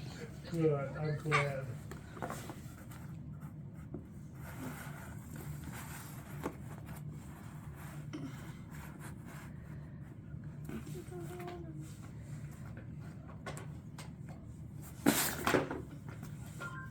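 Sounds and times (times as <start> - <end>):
low room hum: 0.0 - 16.9.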